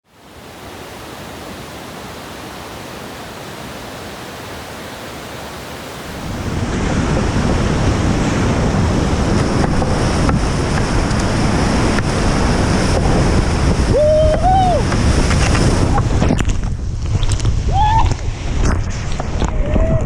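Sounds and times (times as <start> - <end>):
river water rushing: 0.0 - 16.3
wind on microphone: 0.2 - 20.0.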